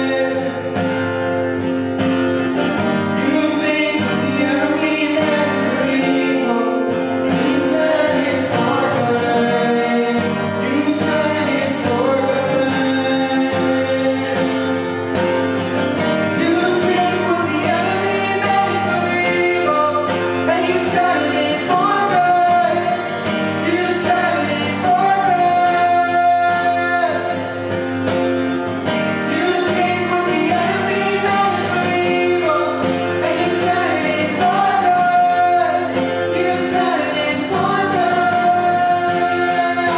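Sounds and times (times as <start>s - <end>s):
person singing worship song: 0.0s - 0.9s, 3.1s - 15.0s, 16.2s - 27.6s, 29.1s - 39.9s
guitar: 0.0s - 39.9s.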